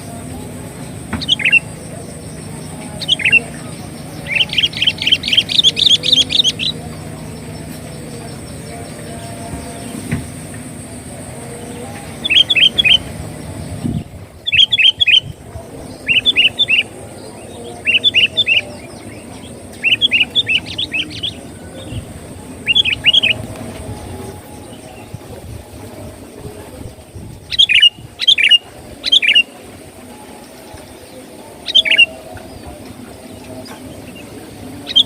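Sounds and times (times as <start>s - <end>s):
bird singing chirping phrases: 0.0s - 35.0s.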